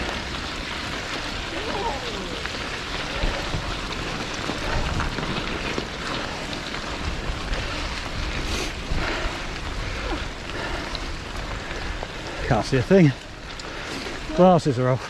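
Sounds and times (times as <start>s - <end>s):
wind buffeting microphone: 0.0s - 14.7s
tyres hissing on wet gravel: 0.0s - 15.0s.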